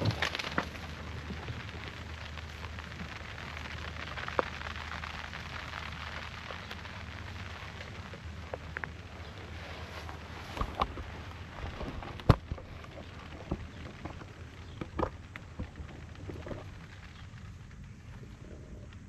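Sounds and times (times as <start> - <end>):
rain falling: 0.0 - 19.0
raindrops ticking on surfaces: 0.0 - 19.0.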